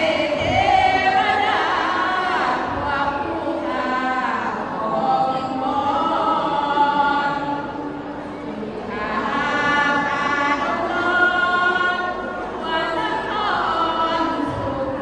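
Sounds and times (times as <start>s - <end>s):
women chanting unaccompanied: 0.0s - 7.8s, 8.8s - 15.0s.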